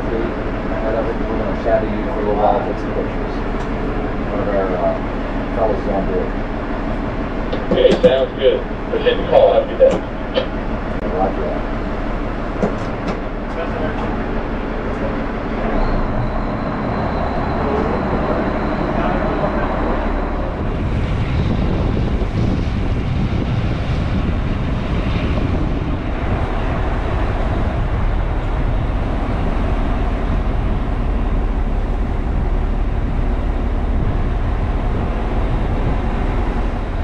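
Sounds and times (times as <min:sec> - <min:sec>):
motorboat engine drone: 0:00.0 - 0:37.0
wind and water rushing: 0:00.0 - 0:37.0.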